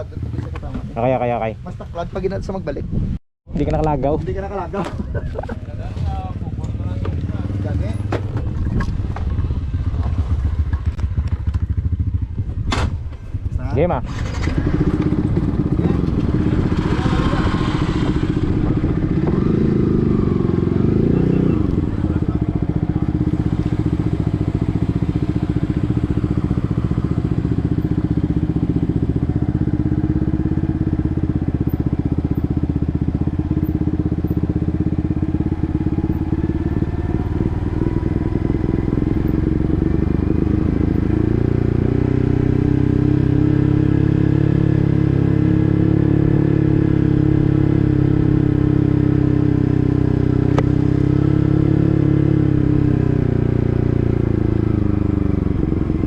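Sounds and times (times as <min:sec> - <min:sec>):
motorcycle engine revving: 0:00.0 - 0:02.0, 0:04.3 - 0:56.0.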